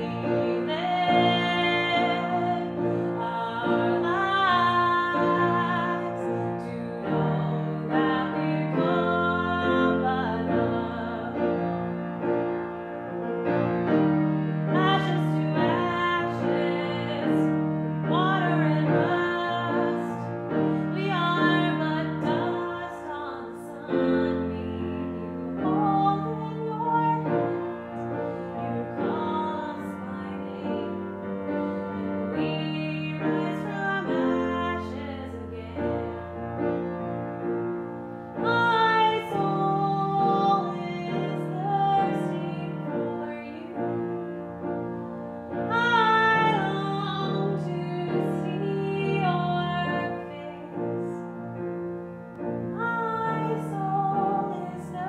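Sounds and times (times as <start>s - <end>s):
woman singing: 0.0s - 11.8s, 14.6s - 36.5s, 38.4s - 44.0s, 45.7s - 51.2s, 52.7s - 55.0s
grand piano: 0.0s - 55.0s.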